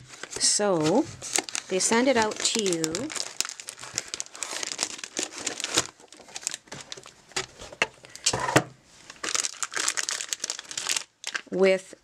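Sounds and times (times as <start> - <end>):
packaging crinkling and rustling: 0.0 - 11.6.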